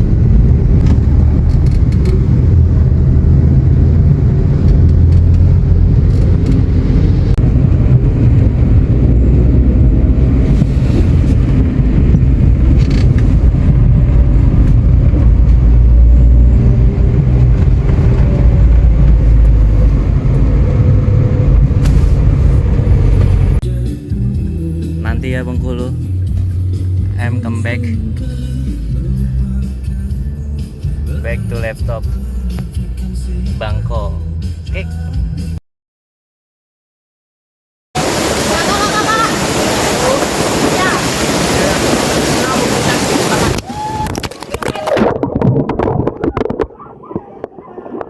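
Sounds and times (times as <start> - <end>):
vehicle engine and road rumble: 0.0 - 35.6, 38.0 - 48.0.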